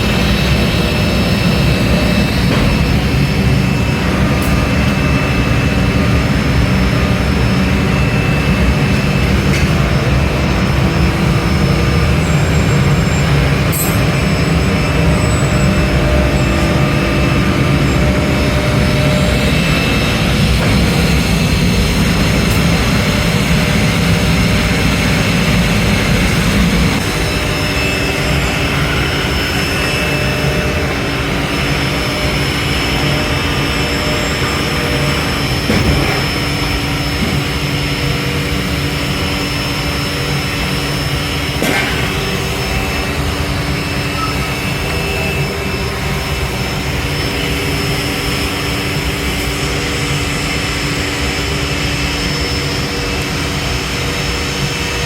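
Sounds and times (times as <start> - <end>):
factory machinery humming and whining: 0.0 - 55.0.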